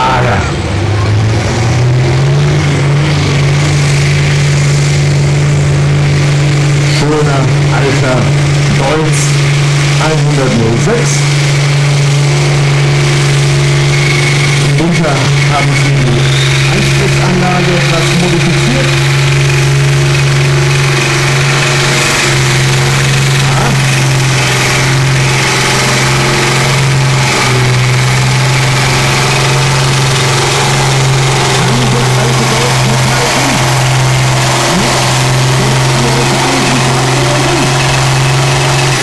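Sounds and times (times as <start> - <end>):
tractor diesel engine droning: 0.0 - 39.0.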